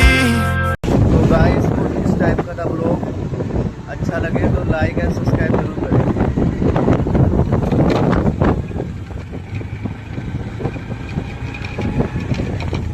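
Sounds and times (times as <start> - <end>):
gusty wind buffeting microphone: 0.8 - 12.9.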